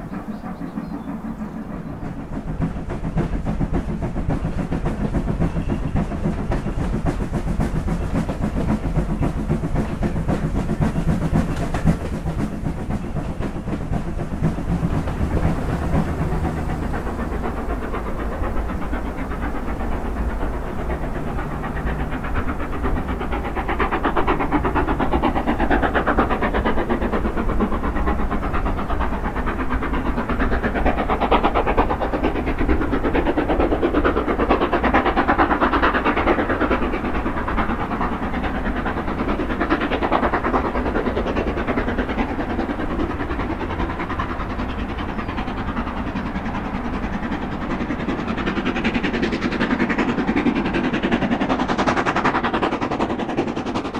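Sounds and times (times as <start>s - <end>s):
steam hissing: 0.0s - 53.9s
steam locomotive chuffing: 0.0s - 53.9s.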